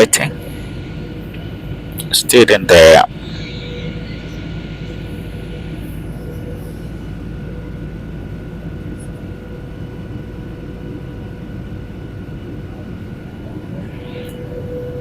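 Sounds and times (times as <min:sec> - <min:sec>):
airplane engine noise: 0:00.0 - 0:15.0
steady whining tones: 0:00.0 - 0:15.0.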